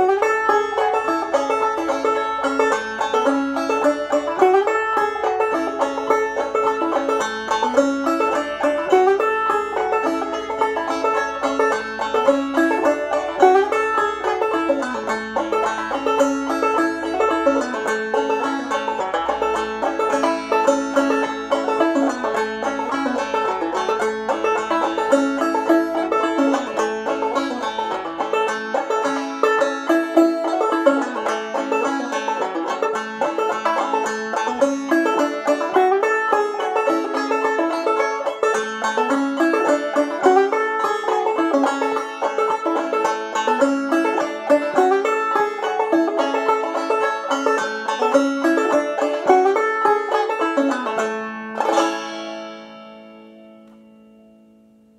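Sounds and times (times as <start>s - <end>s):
banjo playing fast plucked notes: 0.0s - 54.3s
ringing banjo chord: 0.0s - 54.9s.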